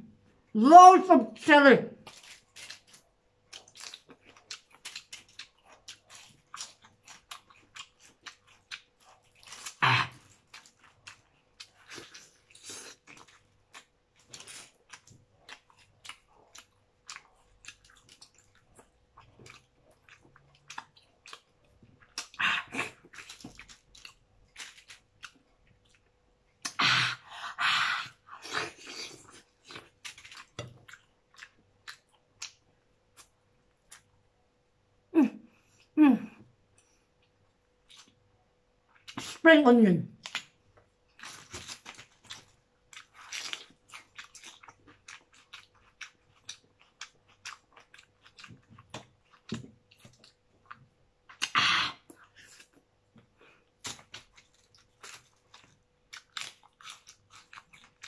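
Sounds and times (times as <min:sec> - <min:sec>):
chewing and crunching: 0:02.0 - 0:26.8, 0:28.1 - 0:34.2, 0:36.7 - 0:39.4, 0:40.2 - 0:58.0.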